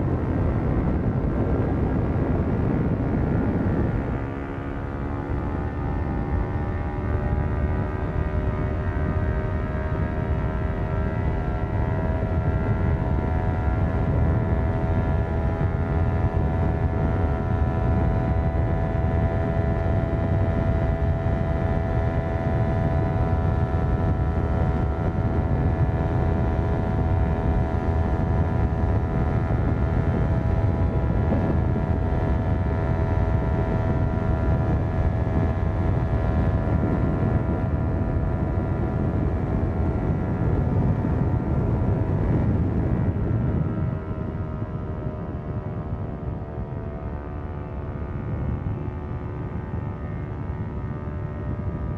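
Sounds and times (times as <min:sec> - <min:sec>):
motorcycle engine cruising: 0:00.0 - 0:51.9
wind and road noise: 0:00.0 - 0:51.9.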